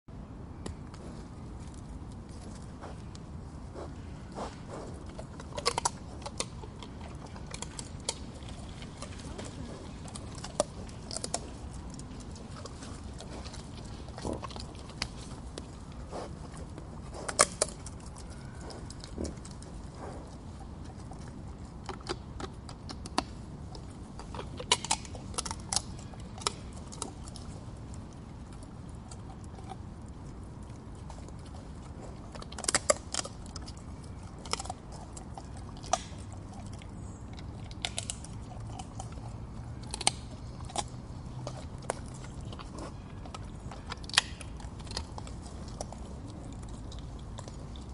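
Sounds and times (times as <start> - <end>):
boar crunching nuts: 0.6 - 47.9.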